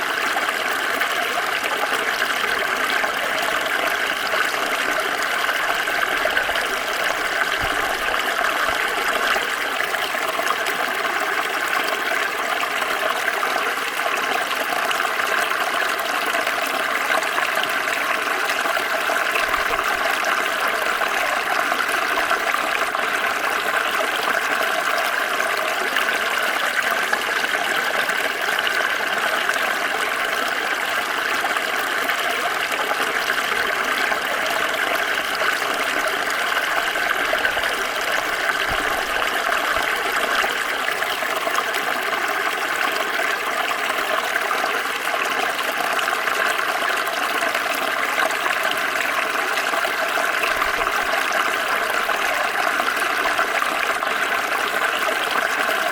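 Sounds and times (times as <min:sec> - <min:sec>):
stream trickling over stones: 0:00.0 - 0:55.9.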